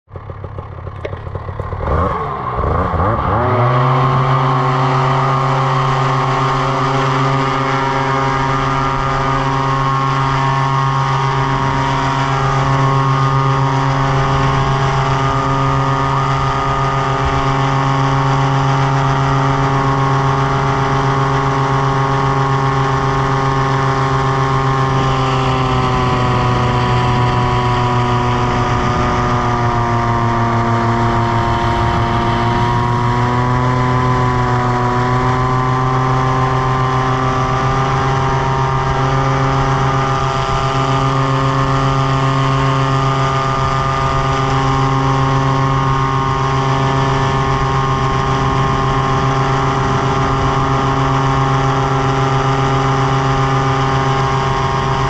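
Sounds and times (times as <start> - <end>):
paramotor engine and propeller drone: 0.1 - 55.0.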